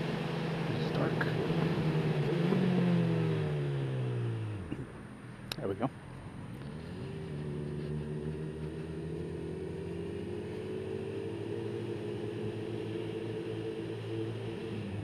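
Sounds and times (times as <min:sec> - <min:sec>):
motorcycle engine running: 0:00.0 - 0:05.0, 0:06.1 - 0:15.0.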